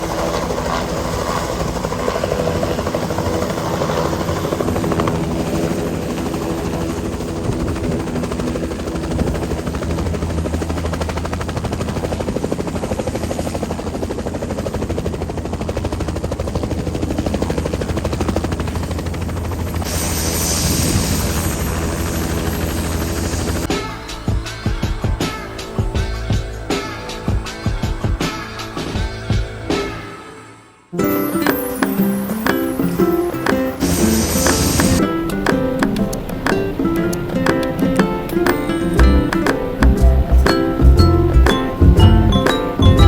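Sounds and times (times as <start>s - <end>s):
helicopter rotor chop: 0.0s - 29.1s, 31.4s - 43.0s.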